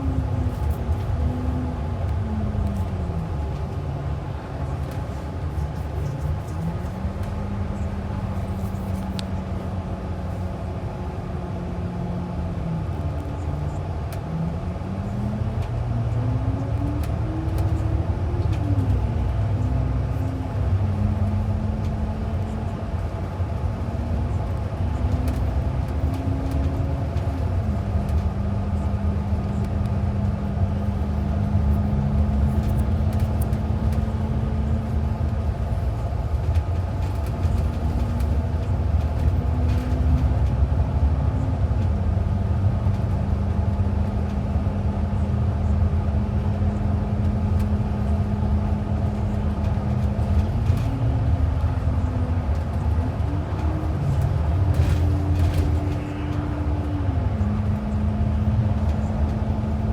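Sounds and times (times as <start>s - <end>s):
bus drivetrain rumble: 0.0s - 59.9s
bus engine whine: 0.0s - 59.9s.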